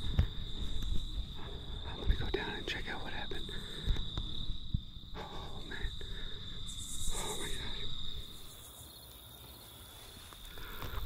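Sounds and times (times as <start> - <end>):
insect buzzy pulsing trill: 0.0 - 11.0
insects high-pitched drone: 0.0 - 11.0.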